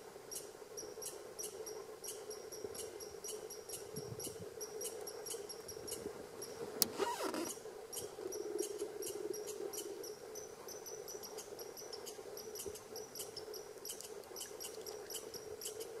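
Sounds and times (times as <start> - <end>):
low steady hum: 0.0 - 16.0
insects chirping: 0.3 - 16.0.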